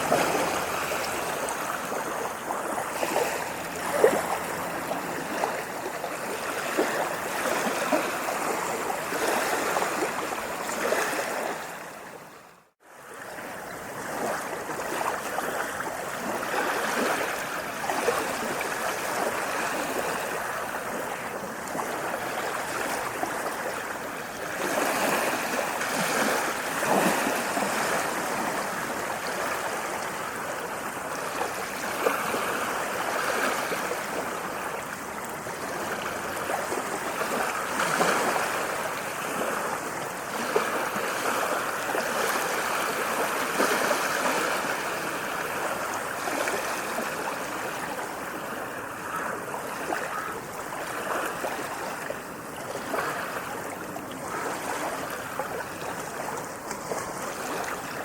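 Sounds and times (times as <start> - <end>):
sea waves washing: 0.0 - 58.0.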